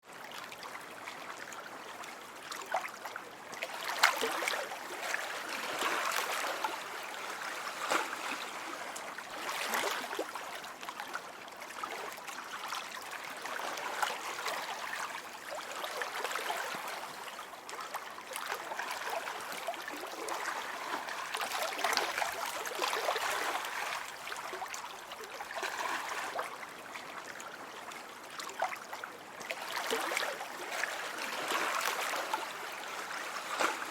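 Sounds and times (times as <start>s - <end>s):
lake water lapping and splashing: 0.0s - 33.9s.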